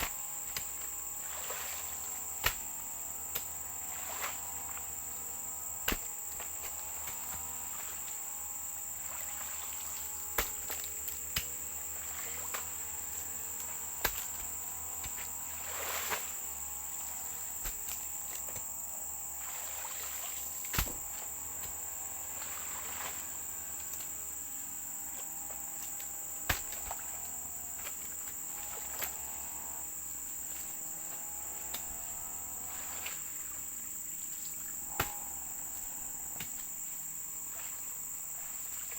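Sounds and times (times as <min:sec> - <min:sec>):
distant grass cutter engine: 0:00.0 - 0:38.9
high-pitched insect drone: 0:00.1 - 0:38.9.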